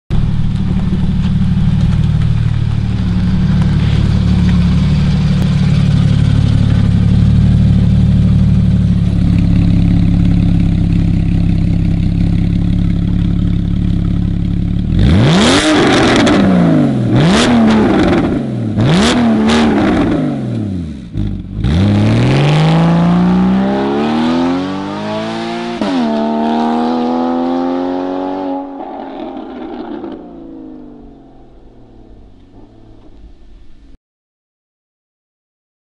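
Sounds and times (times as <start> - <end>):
car engine idling and revving: 0.1 - 34.0.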